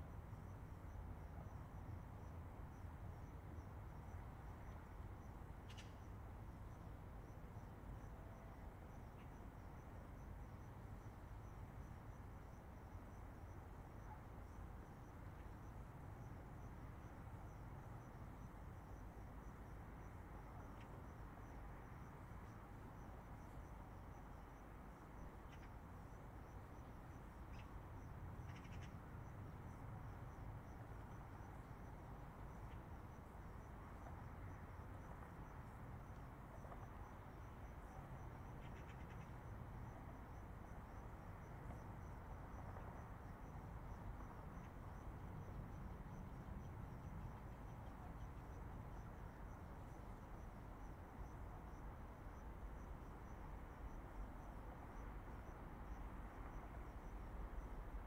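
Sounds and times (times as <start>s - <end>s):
crickets chirping: 0.0s - 58.0s
distant highway traffic rumble: 0.0s - 58.0s.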